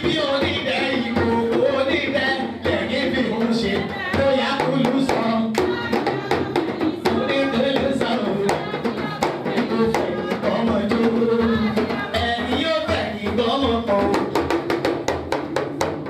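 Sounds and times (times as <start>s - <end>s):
voices singing: 0.0s - 14.6s.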